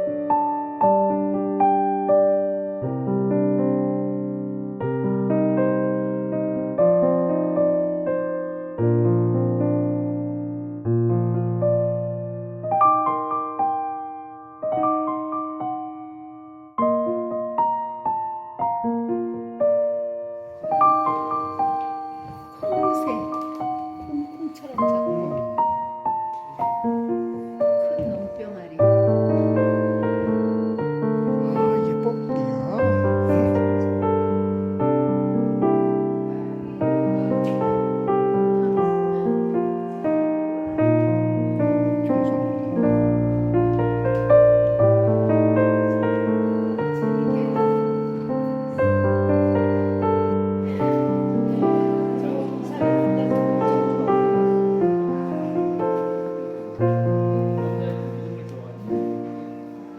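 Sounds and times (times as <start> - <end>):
gentle solo piano: 0.0 - 59.9.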